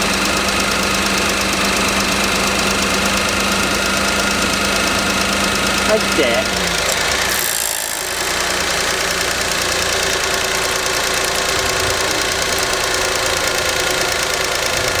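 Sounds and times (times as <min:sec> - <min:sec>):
car engine idling: 0:00.0 - 0:07.3, 0:08.1 - 0:15.0.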